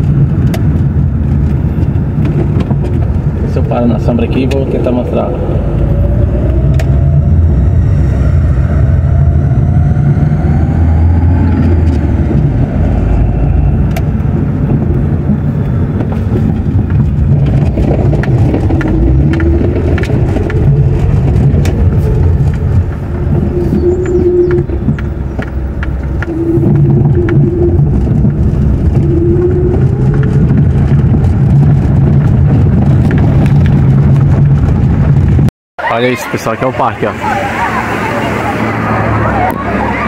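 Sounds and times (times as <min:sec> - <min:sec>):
car engine: 0:00.0 - 0:40.0
road noise: 0:00.0 - 0:40.0.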